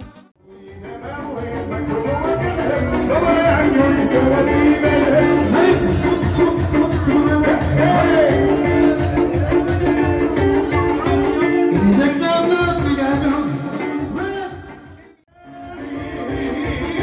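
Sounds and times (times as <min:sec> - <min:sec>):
keyboard-led dance music: 0:00.0 - 0:17.0.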